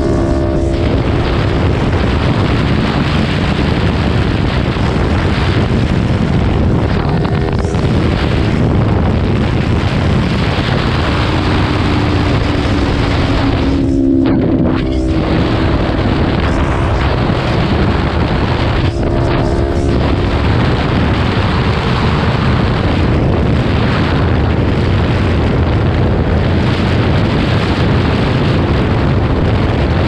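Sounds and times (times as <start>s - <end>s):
motorcycle engine running: 0.0s - 30.0s
wind rush on microphone: 0.0s - 30.0s.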